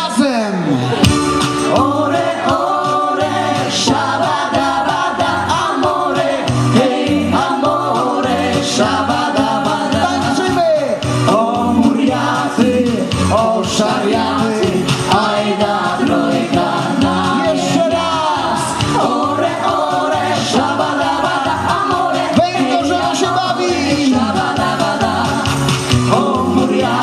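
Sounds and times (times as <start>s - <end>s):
backing music with bass beat: 0.8s - 27.0s
women's group singing: 1.6s - 10.5s, 11.2s - 27.0s.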